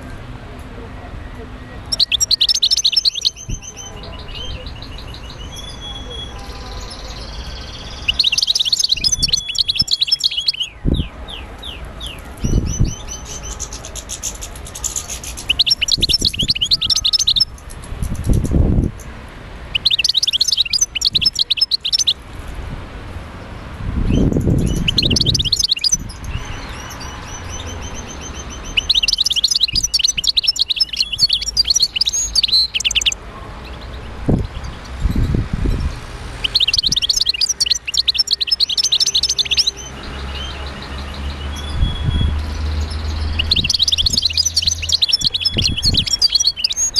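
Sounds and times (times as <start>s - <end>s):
songbird twittering trills: 1.7s - 22.2s, 24.0s - 46.9s.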